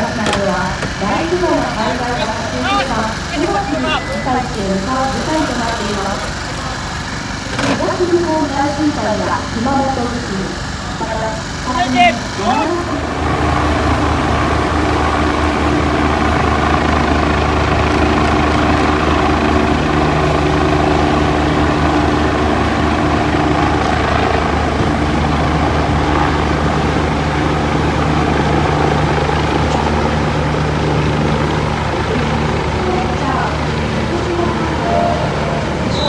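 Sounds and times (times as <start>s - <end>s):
helicopter hovering overhead: 0.0s - 36.0s.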